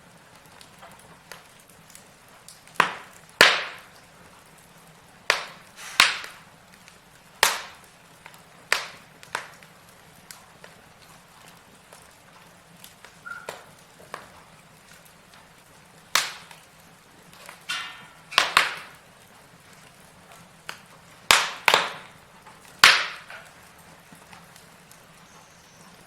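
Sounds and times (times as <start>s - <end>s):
low fire hiss: 0.0s - 26.0s
sharp pops of burning wood: 0.0s - 26.0s
wood logs crackling in fireplace: 0.0s - 26.0s.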